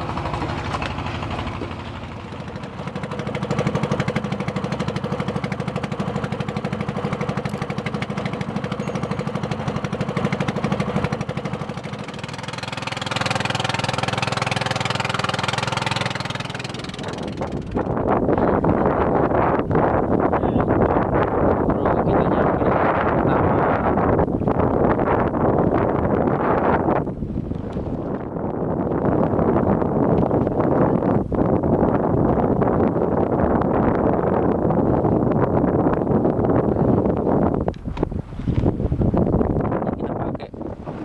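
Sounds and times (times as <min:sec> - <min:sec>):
boat engine running: 0:00.0 - 0:41.0
wind on microphone: 0:00.0 - 0:41.0.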